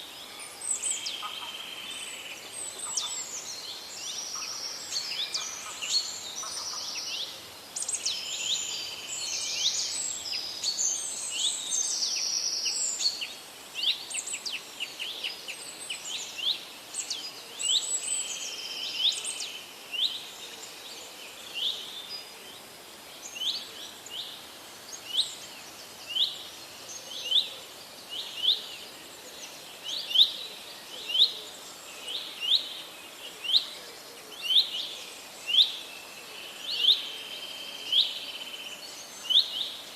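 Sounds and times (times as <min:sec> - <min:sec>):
faint background hiss: 0:00.0 - 0:39.9
songbirds singing in chorus: 0:00.0 - 0:39.9.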